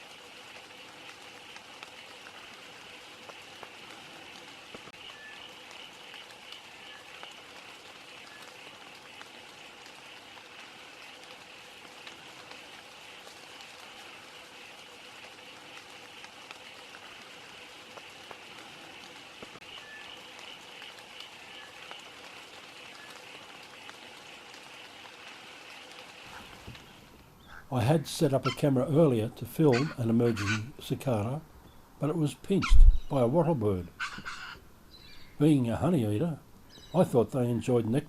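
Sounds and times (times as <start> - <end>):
gentle rain falling: 0.0 - 38.0.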